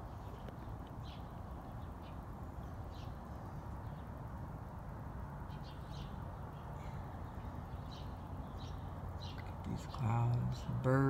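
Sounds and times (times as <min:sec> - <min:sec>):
birds chirping: 0:00.0 - 0:04.4, 0:05.2 - 0:11.0.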